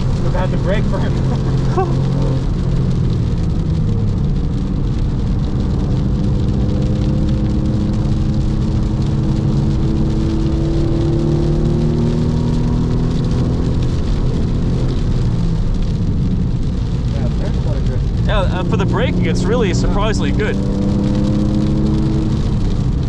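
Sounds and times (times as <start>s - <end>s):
wet road noise hiss: 0.0s - 23.0s.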